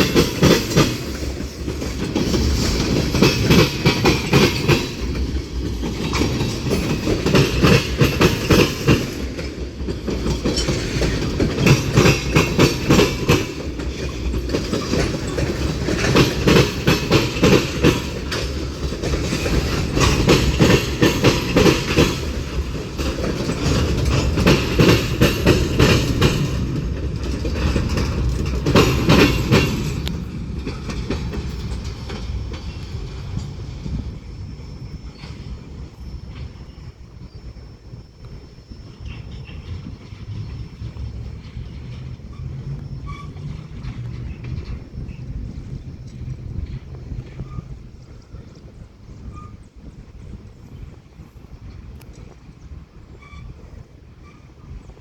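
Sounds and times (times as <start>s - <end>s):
freight train rumble: 0.0s - 55.0s
train wheels clacking: 0.0s - 55.0s.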